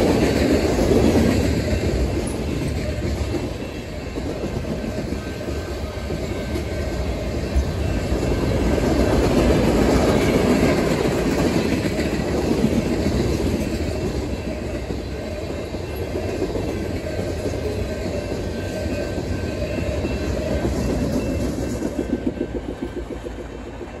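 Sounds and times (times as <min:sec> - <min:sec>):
train wheels rumbling and clattering: 0:00.0 - 0:24.0
wheels clickety-clack over rail joints: 0:00.0 - 0:24.0.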